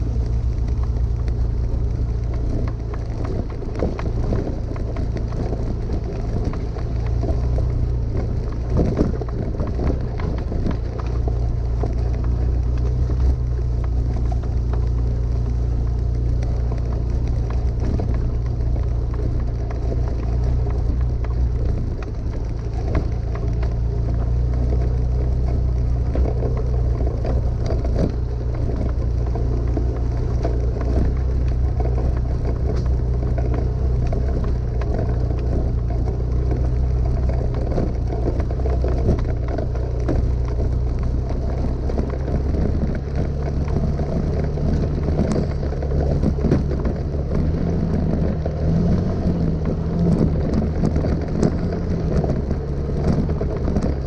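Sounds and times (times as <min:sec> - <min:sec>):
knocks and rattles from stones: 0:00.0 - 0:54.0
vehicle engine running: 0:00.0 - 0:54.0.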